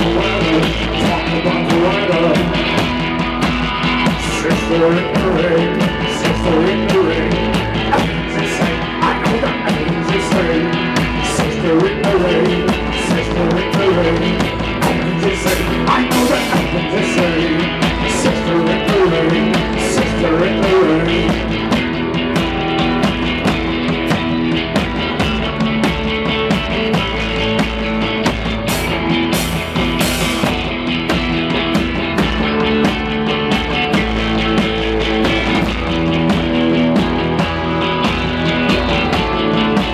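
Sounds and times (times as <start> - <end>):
drum kit snare and cymbal hits: 0.0 - 39.9
electric bass line: 0.0 - 39.9
electric guitar: 0.0 - 39.9.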